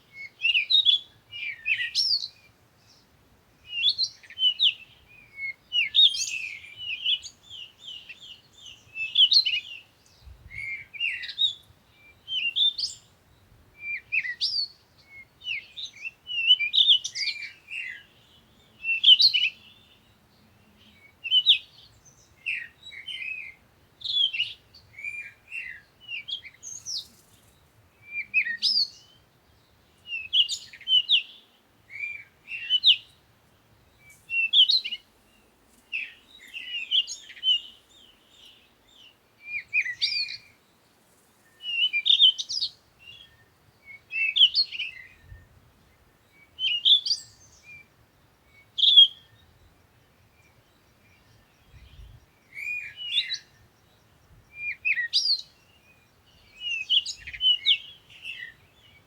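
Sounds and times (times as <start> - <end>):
small bird chirping: 3.7 - 20.0, 20.6 - 33.2, 33.8 - 47.9, 48.5 - 59.0.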